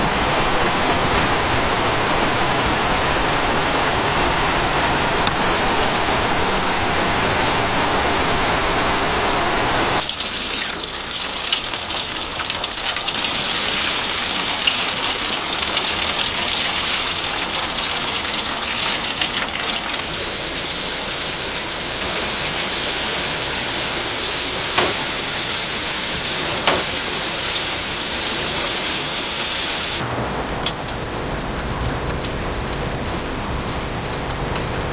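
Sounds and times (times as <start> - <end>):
rain against a window: 0.0 - 34.9.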